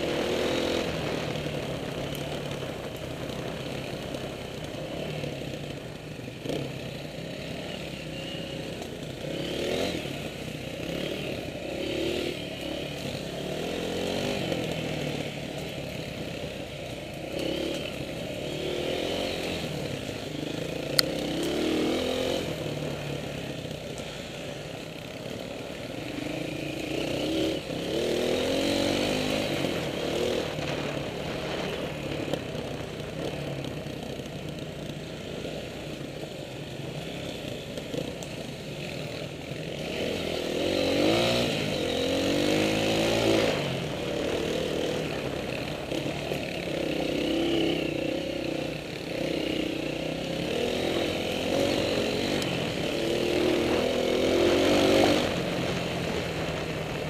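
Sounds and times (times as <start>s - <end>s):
dirt bike engine revving: 0.0s - 5.8s, 6.4s - 57.0s.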